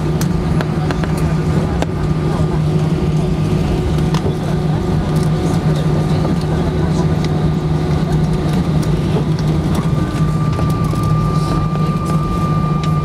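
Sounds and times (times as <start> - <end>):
jet engine hum: 0.0 - 13.0.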